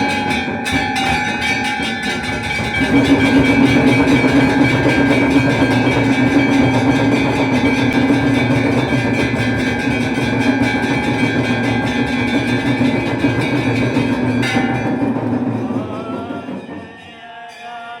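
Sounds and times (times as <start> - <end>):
wavering tone: 0.0 - 17.3
drumming: 0.0 - 17.4
temple bells clanging: 0.0 - 18.0.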